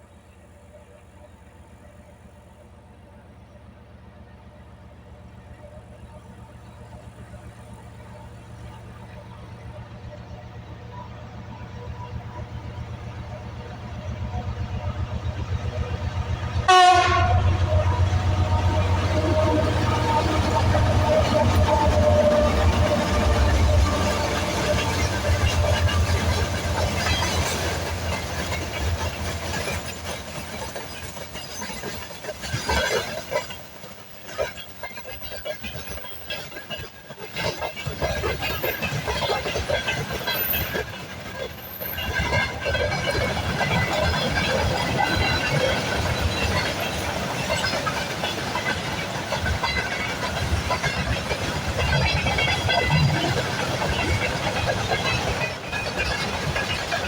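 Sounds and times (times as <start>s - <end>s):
low train rumble: 0.0s - 57.0s
train wheels clattering on rails: 4.4s - 57.0s.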